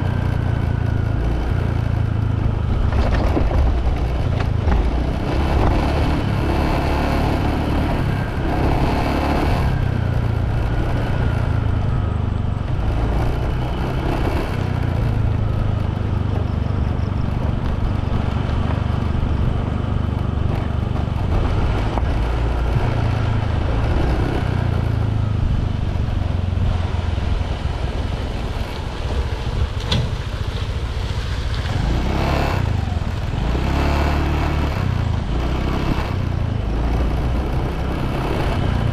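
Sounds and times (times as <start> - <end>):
motorbike engine rumble: 0.0 - 38.9.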